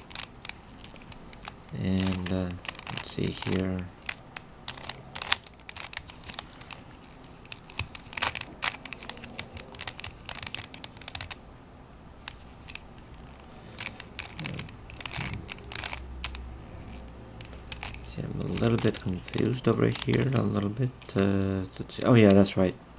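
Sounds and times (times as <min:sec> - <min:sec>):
puzzle cube clicking: 0:00.0 - 0:11.5, 0:12.2 - 0:22.6.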